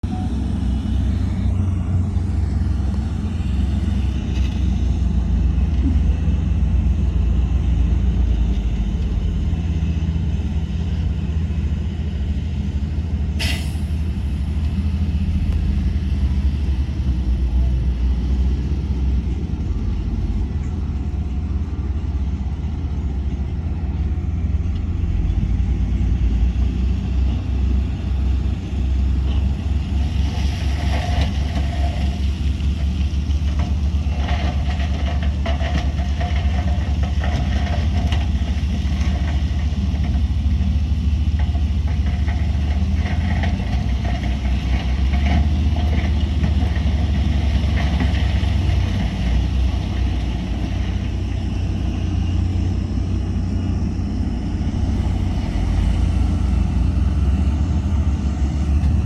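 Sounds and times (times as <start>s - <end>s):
diesel machinery engine rumble: 0.0s - 59.0s.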